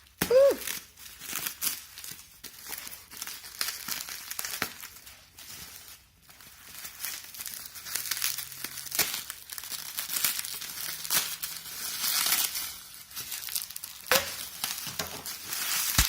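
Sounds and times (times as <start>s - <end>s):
gift wrapping crumpled and torn: 0.0s - 16.0s.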